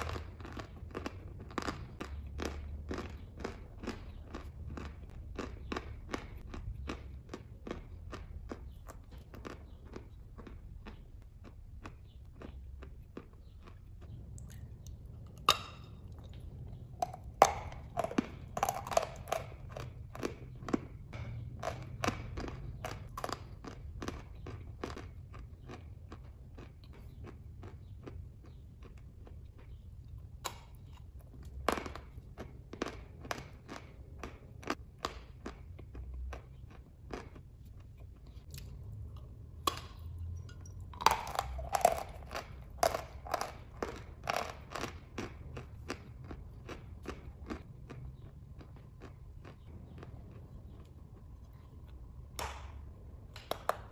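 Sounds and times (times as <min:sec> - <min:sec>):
chalk crunching while chewed: 0:00.0 - 0:52.8.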